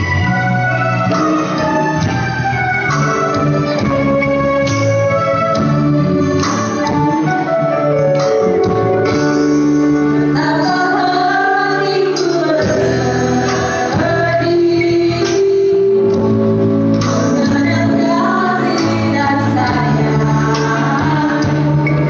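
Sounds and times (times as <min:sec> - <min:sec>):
keyboard accompaniment: 0:00.0 - 0:22.0.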